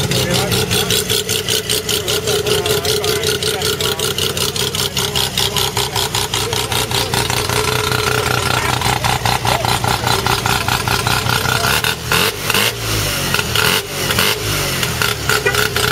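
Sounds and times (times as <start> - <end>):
rotary engine idling and revving: 0.0 - 15.9.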